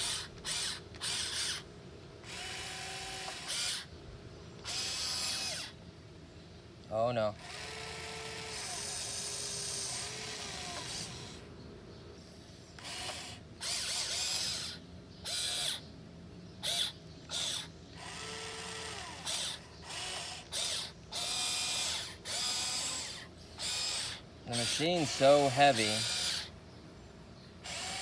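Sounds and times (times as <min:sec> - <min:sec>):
electric motors whirring: 0:00.0 - 0:04.0, 0:04.6 - 0:05.8, 0:07.4 - 0:11.5, 0:12.7 - 0:15.9, 0:16.6 - 0:26.6, 0:27.6 - 0:28.0.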